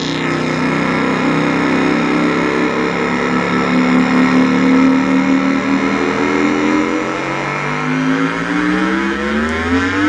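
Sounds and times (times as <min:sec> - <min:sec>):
distorted electric guitar chord: 0:00.0 - 0:10.0.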